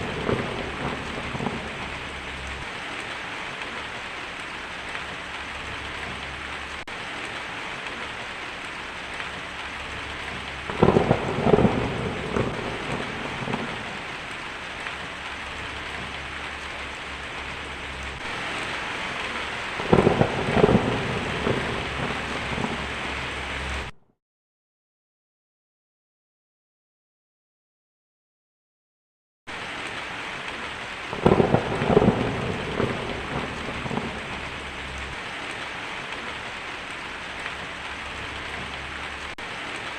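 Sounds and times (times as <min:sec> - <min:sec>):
crackling thunder roll: 0:00.0 - 0:24.0, 0:29.5 - 0:39.9
heavy rain: 0:00.0 - 0:24.0, 0:29.5 - 0:39.9.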